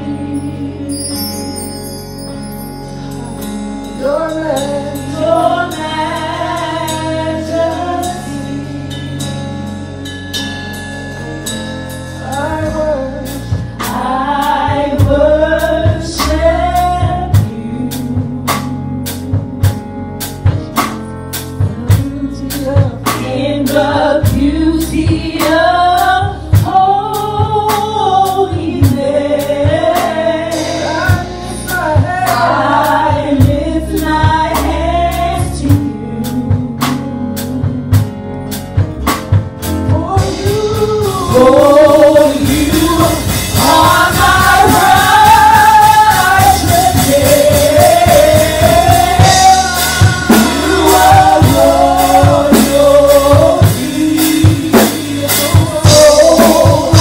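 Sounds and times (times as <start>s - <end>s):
low bass notes: 0.0s - 1.5s, 2.4s - 57.0s
drum kit beat: 3.2s - 57.0s
women singing: 4.0s - 9.2s, 12.2s - 19.4s, 21.7s - 37.9s, 39.9s - 57.0s.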